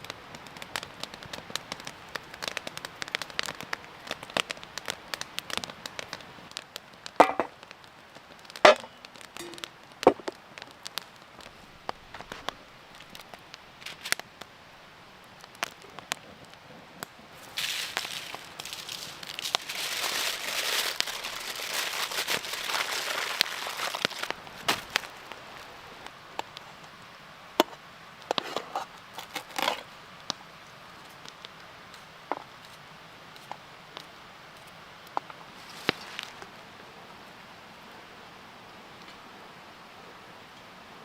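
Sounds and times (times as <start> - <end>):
campfire crackling and popping: 0.0 - 37.9
rushing fire noise: 0.0 - 37.9.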